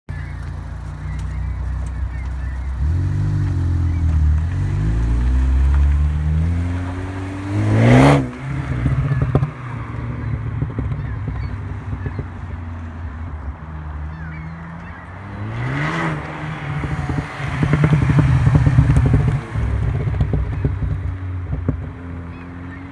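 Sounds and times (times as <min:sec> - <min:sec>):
car engine idling and revving: 0:00.1 - 0:22.9
exhaust crackles and pops: 0:00.1 - 0:22.9.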